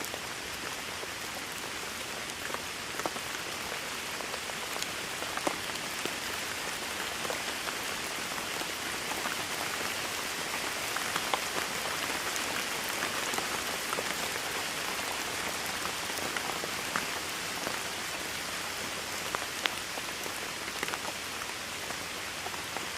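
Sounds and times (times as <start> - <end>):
heavy rain on hard surface: 0.0 - 22.9.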